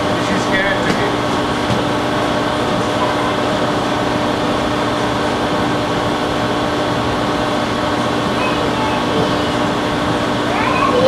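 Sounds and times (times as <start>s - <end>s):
mechanical drone with low hum: 0.0s - 11.0s.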